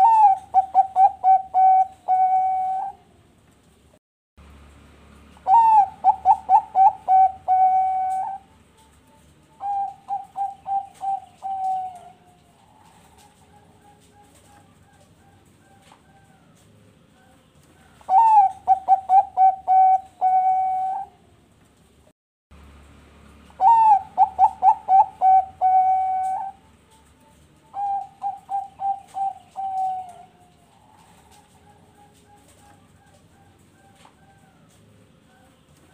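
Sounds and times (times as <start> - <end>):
dove cooing: 0.0 - 3.2, 5.4 - 21.3, 23.6 - 35.9.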